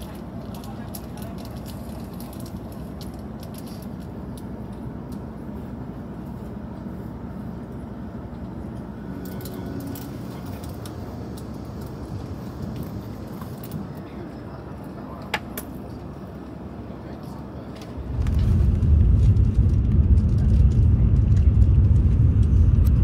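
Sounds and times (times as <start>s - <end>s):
train cabin rumble: 0.0s - 23.0s.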